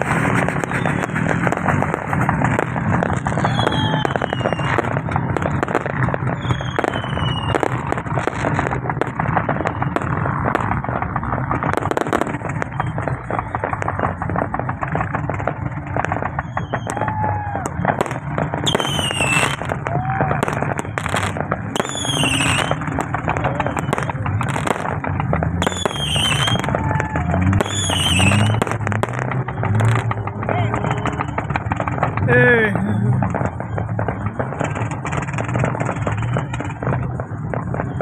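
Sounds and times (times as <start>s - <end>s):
firework whistles: 0.0s - 32.8s, 33.4s - 38.0s
fireworks crackling and bursting: 0.0s - 38.0s.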